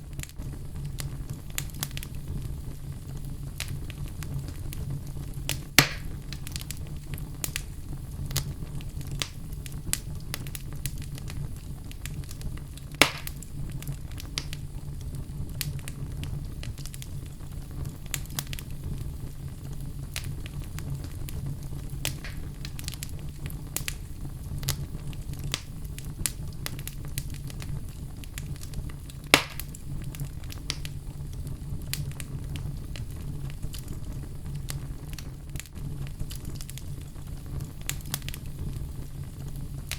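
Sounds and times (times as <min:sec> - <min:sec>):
fire crackling: 0:00.0 - 0:39.9
low steady rumble: 0:00.0 - 0:39.9
sharp fire pops: 0:00.0 - 0:39.9.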